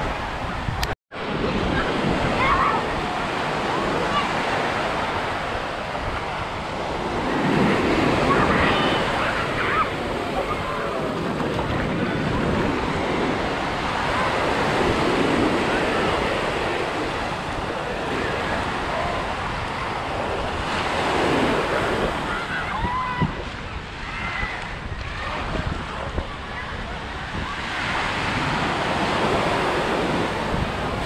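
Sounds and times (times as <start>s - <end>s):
small waves washing on sand: 0.0s - 31.0s
wind buffeting microphone: 0.0s - 31.0s
faint voices: 1.2s - 31.0s.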